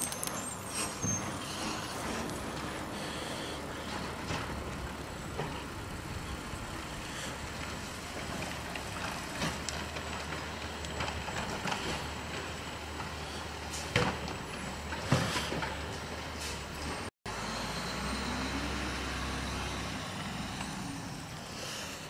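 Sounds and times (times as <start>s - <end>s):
distant truck engine hum: 0.0s - 22.0s.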